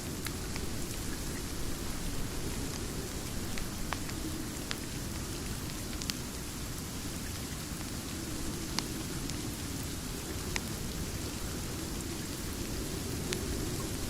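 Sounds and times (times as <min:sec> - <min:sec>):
steady rain: 0:00.0 - 0:14.0
wood fire crackling: 0:00.0 - 0:14.0.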